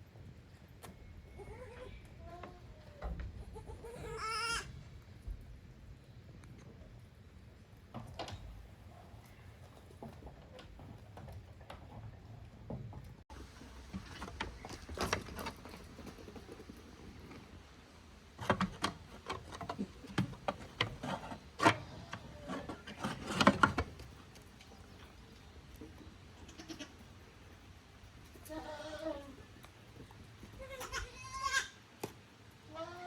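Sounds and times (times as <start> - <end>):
goats: 0.8 - 4.8, 8.8 - 33.0.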